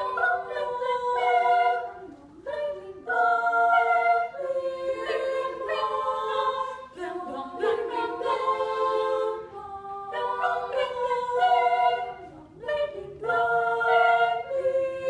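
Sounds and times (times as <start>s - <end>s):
women's chorus singing a cappella: 0.0s - 15.0s.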